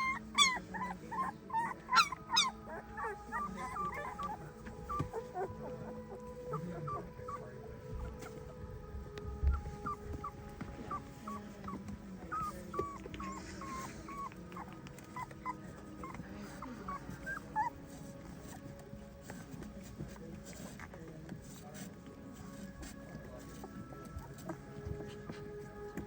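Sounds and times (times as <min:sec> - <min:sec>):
puppy whining and howling: 0:00.0 - 0:19.7, 0:22.4 - 0:26.0.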